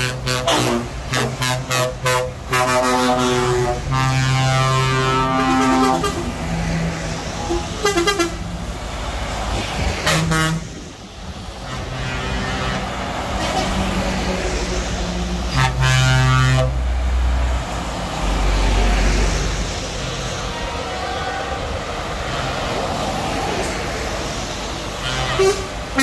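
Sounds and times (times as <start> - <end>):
truck air horns: 0.0 - 8.7, 9.8 - 17.0, 18.6 - 23.0, 24.6 - 26.0
diesel truck engines: 0.0 - 26.0.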